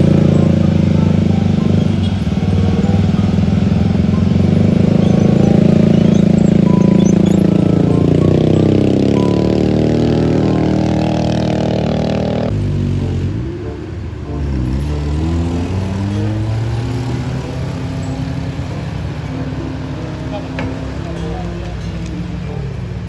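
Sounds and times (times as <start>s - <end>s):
scooter engines revving: 0.0s - 23.0s.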